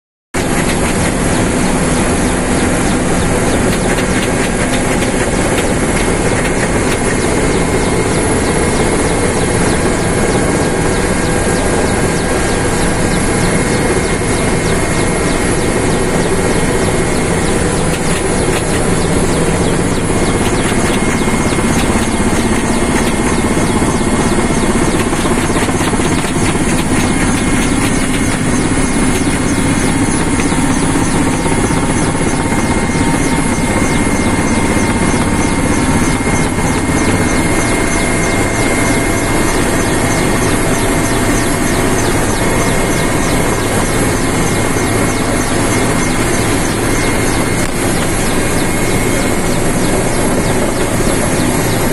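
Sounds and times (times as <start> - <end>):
helicopter engine and rotor: 0.4 - 51.9
steady high whine: 0.4 - 51.9.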